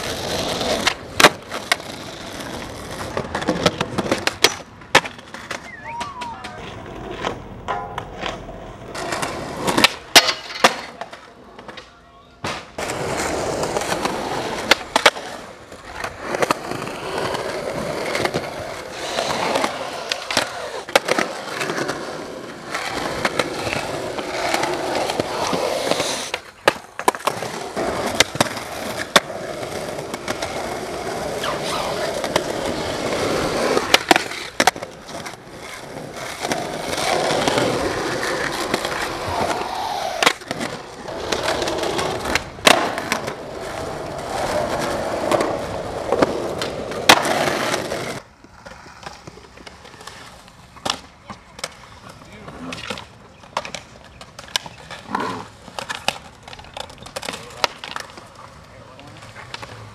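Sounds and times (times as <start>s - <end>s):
skateboard clacking on ground: 0.0s - 59.9s
skateboard wheels rolling on concrete: 0.0s - 59.9s.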